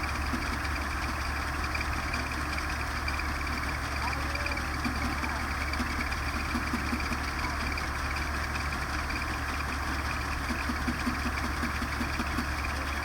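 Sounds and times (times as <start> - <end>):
farm machinery engine throbbing: 0.0 - 13.0.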